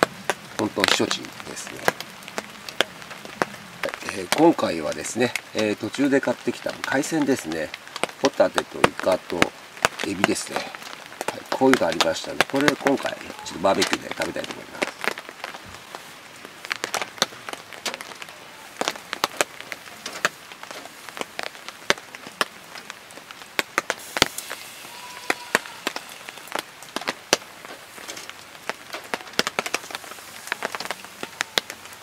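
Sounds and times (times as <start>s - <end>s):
charcoal crackling: 0.0s - 32.0s
seafood sizzling on a grill: 0.0s - 32.0s.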